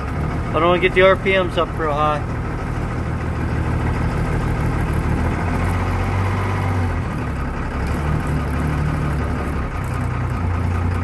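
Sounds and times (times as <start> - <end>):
diesel bus engine running: 0.0 - 11.0.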